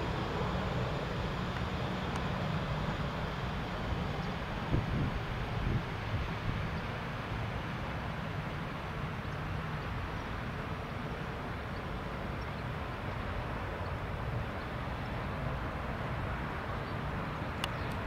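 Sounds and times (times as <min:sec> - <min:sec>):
distant jet engines hissing: 0:00.0 - 0:18.0.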